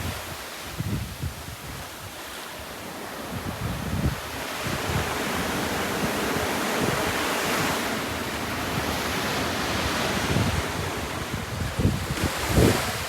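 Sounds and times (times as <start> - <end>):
wind buffeting microphone: 0.0 - 13.0
waves breaking: 1.9 - 13.0.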